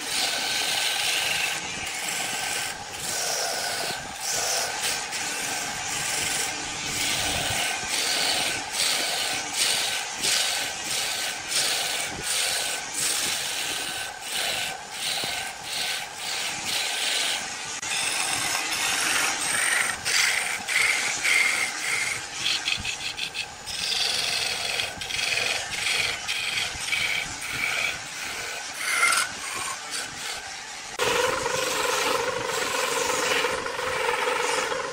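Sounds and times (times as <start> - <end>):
lathe tool scraping wood: 0.0 - 34.9.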